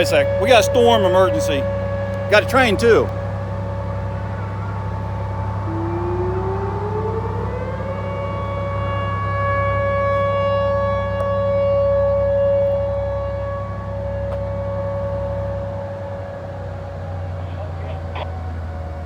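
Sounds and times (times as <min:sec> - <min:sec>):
tornado warning siren: 0:00.0 - 0:19.0.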